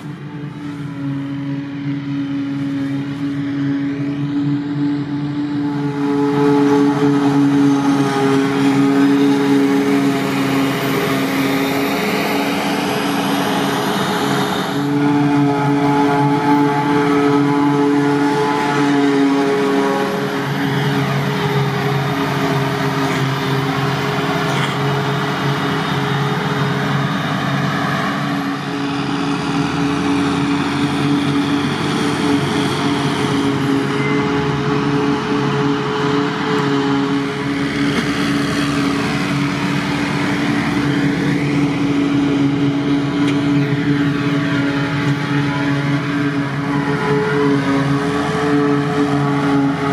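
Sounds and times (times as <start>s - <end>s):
diesel engines under load: 0.0s - 49.9s.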